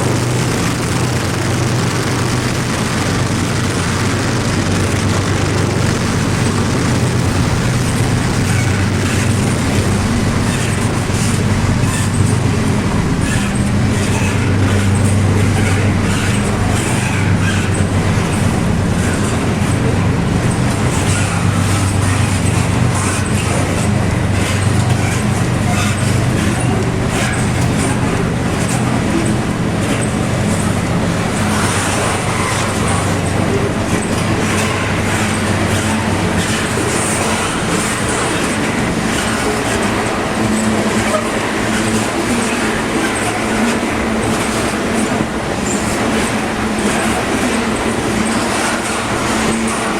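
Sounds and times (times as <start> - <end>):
locomotive engines droning: 0.0 - 49.9.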